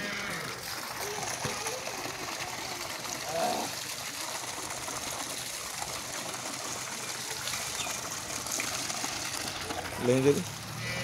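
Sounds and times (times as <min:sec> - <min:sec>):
water gushing and splashing: 0:00.0 - 0:11.0.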